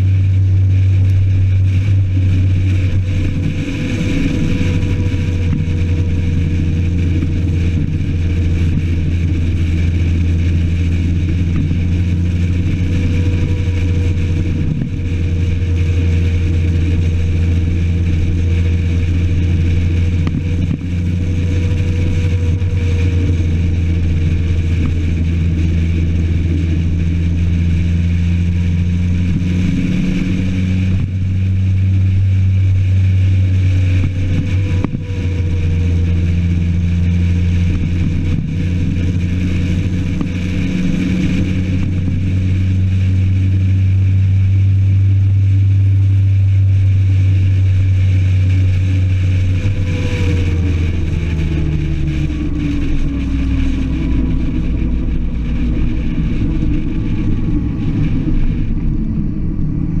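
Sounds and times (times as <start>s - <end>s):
motorcycle engine cruising: 0.0s - 60.0s.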